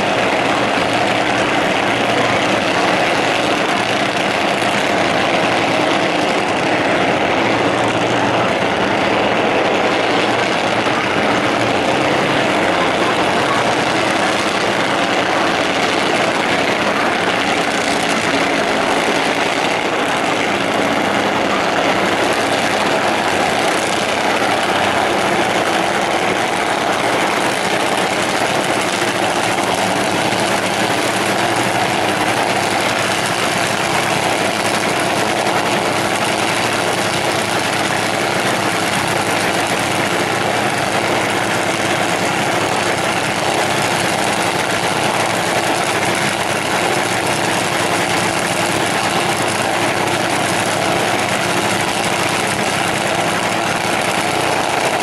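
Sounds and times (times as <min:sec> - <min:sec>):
dragster engine idling loudly: 0:00.0 - 0:55.0.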